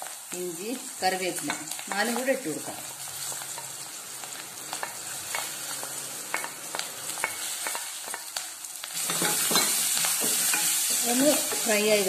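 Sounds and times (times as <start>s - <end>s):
aromatics sizzling in hot oil: 0.0s - 12.0s.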